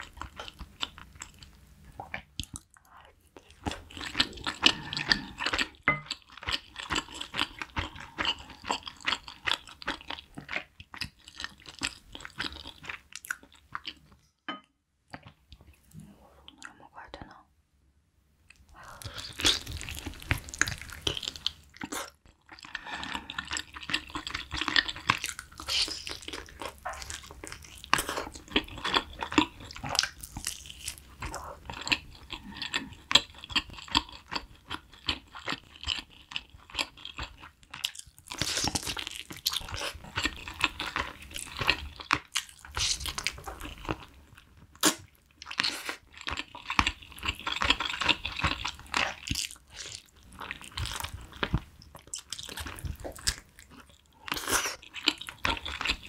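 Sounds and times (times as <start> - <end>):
chewing meat: 0.0 - 14.2, 18.5 - 56.0.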